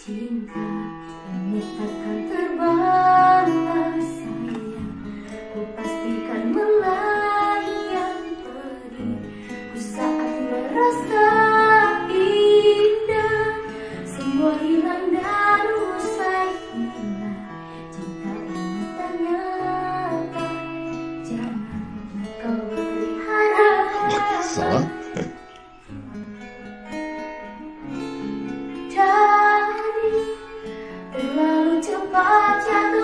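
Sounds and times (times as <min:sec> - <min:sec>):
woman singing pop ballad: 0:00.0 - 0:25.0, 0:28.9 - 0:33.0
acoustic guitar: 0:00.0 - 0:33.0.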